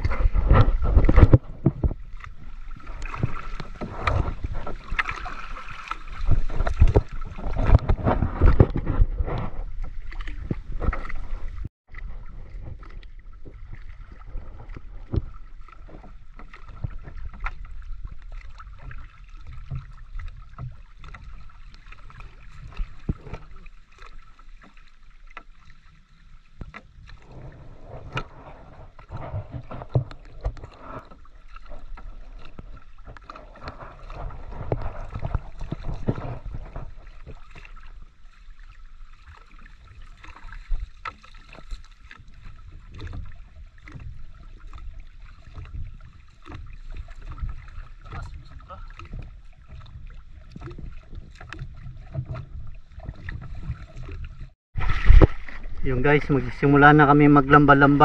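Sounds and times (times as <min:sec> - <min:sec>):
water lapping against canoe hull: 0:00.0 - 0:58.0.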